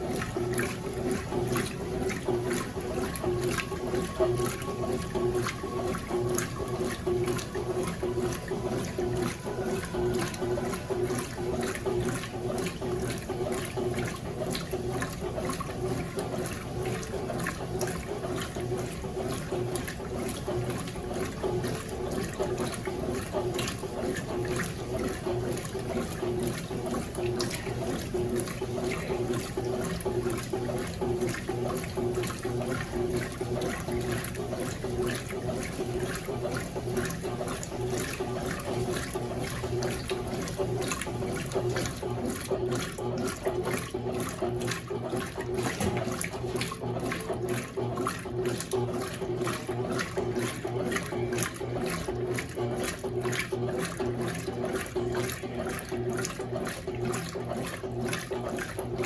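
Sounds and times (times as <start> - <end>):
washing machine hum: 0.0 - 59.0
washing machine water sloshing: 0.0 - 59.0.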